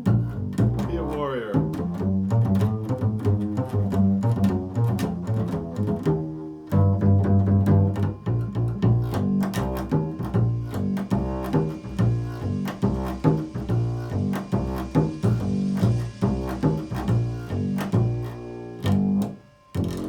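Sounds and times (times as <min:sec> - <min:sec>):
low string instrument solo: 0:00.0 - 0:20.0.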